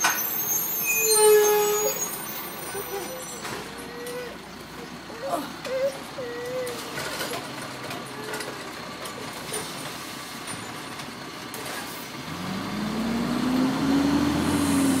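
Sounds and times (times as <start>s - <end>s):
garbage truck rumbling: 0.0s - 15.0s.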